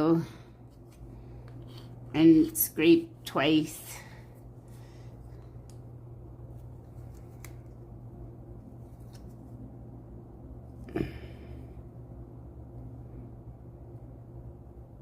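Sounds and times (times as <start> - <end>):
steady low electrical hum: 0.0 - 15.0.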